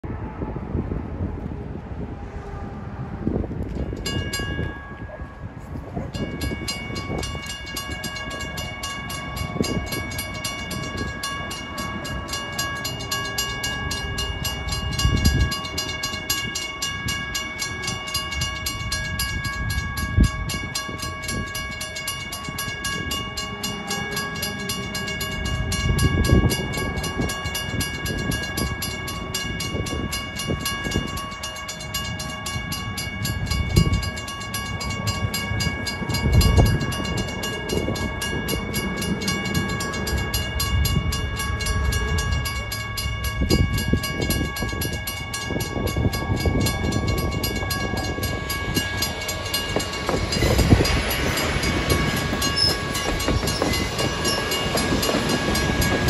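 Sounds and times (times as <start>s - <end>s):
railroad crossing bell ringing: 2.0s - 56.0s.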